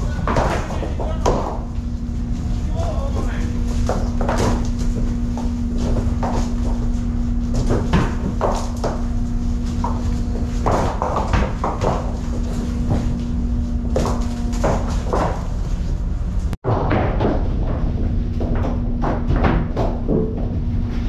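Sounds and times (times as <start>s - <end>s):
low machinery drone: 0.0s - 21.0s.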